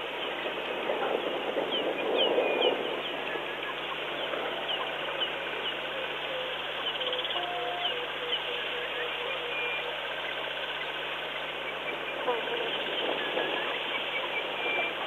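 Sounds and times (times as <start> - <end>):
birds chirping and trilling: 0.1 - 15.0.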